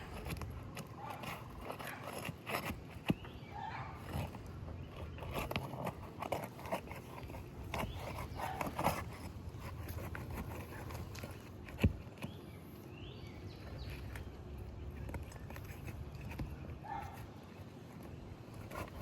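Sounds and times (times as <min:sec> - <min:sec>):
roof shingles crackling and scraping: 0:00.0 - 0:19.0.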